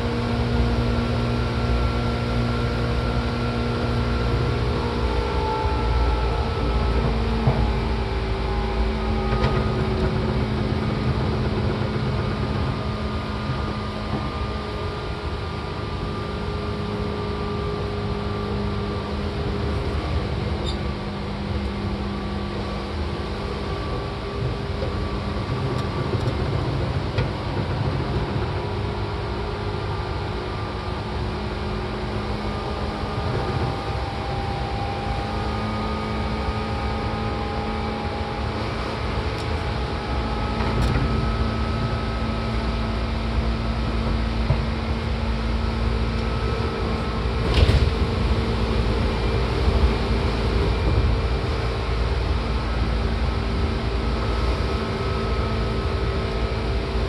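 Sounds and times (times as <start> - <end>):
faint rising whine: 0.0 - 57.0
train wheels rumbling on rail: 0.0 - 57.0.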